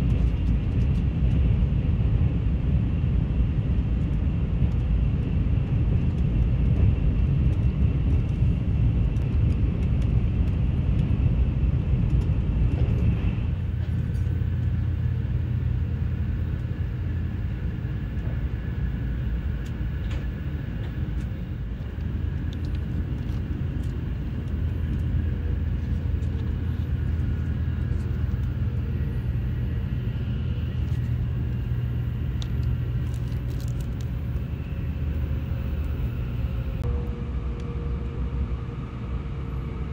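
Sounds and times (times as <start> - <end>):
train rumbling at speed: 0.0 - 39.9.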